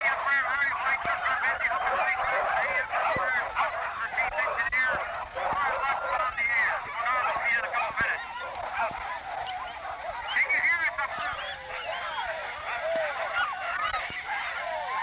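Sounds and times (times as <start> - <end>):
sled dogs yelping and barking: 0.0 - 15.0.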